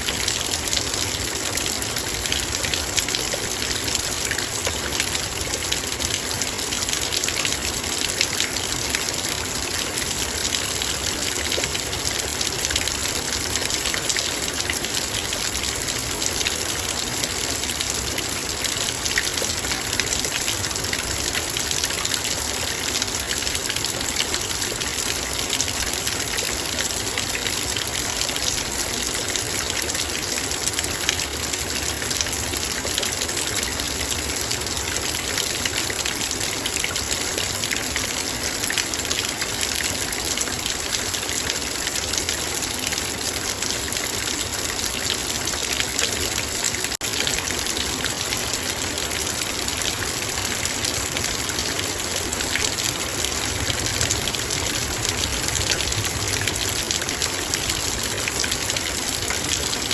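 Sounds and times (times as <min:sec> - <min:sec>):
rain drops on metal bowl: 0:00.0 - 0:59.9
rain hiss: 0:00.0 - 0:59.9.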